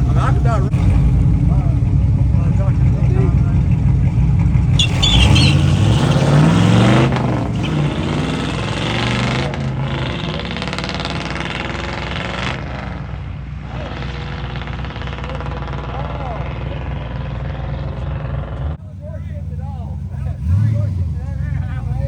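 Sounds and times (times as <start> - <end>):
drag racing engine accelerating: 0.0 - 22.0.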